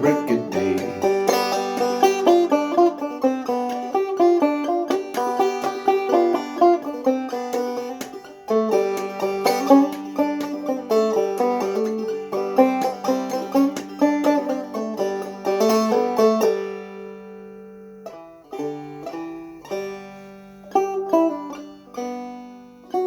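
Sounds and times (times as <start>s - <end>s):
banjo picking: 0.0s - 23.0s.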